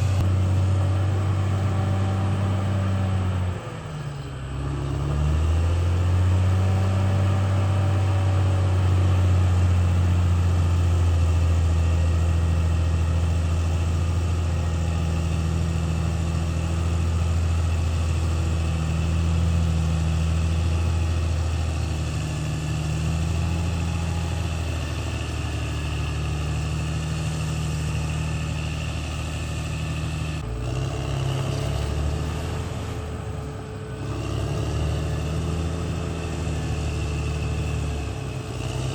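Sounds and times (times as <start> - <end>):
bulldozer diesel engine drone: 0.0 - 38.9.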